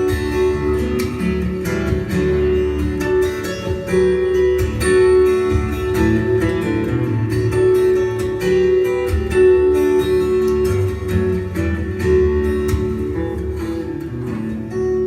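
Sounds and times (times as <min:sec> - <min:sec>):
guitar instrumental: 0:00.0 - 0:15.0.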